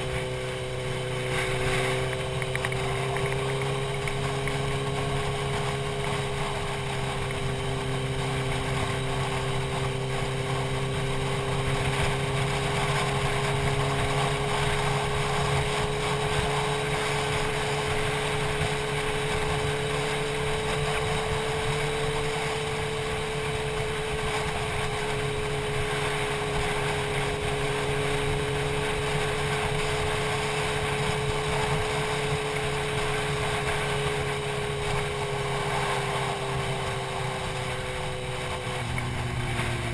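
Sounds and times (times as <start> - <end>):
motorcycle engine cruising: 0.0 - 39.9
steady rushing noise: 0.0 - 39.9.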